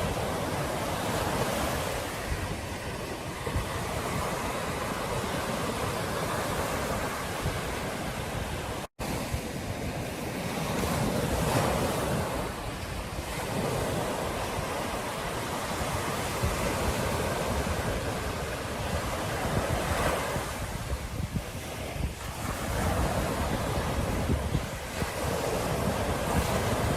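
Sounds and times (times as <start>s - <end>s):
waves breaking on beach: 0.0s - 26.9s
wind buffeting microphone: 0.0s - 26.9s.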